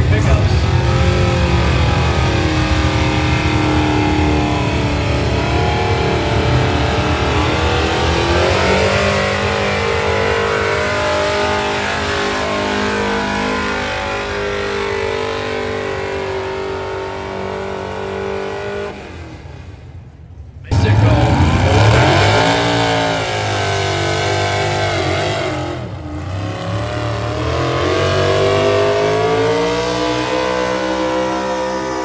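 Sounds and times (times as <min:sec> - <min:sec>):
diesel engine at high revs: 0:00.0 - 0:32.0.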